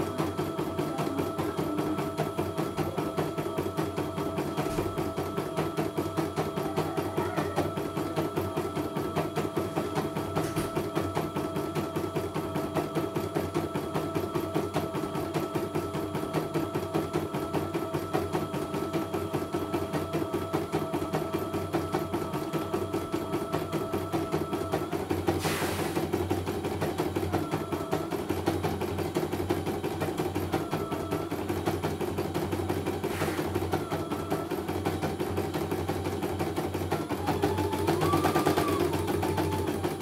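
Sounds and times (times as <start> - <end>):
steady motor hum: 0.0 - 40.0.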